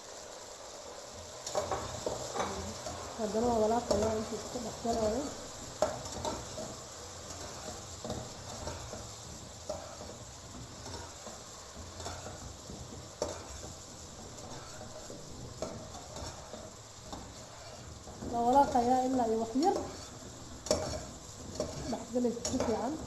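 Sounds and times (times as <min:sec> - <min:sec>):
food sizzling in hot oil: 0:00.0 - 0:23.0
spoon clinking and scraping pot: 0:01.5 - 0:23.0.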